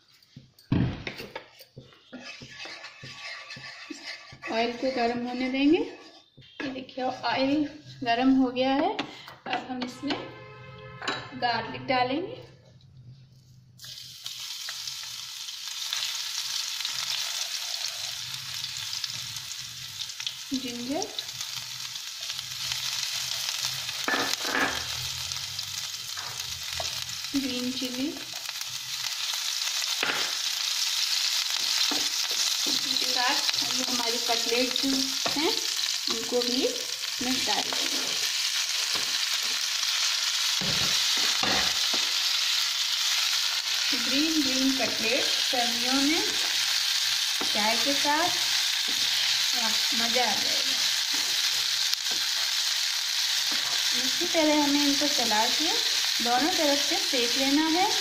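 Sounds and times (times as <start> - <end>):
garlic sizzling in oil: 1.3 - 9.2, 13.8 - 58.0.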